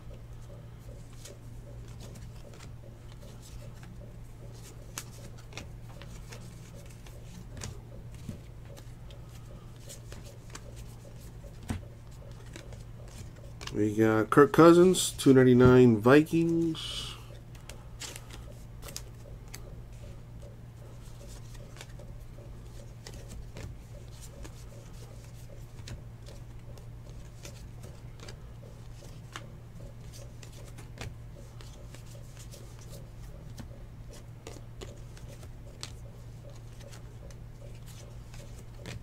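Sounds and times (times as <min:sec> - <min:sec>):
steady low hum: 0:00.0 - 0:39.0
cards clicking and sliding: 0:00.4 - 0:13.8, 0:17.5 - 0:20.2, 0:20.8 - 0:39.0.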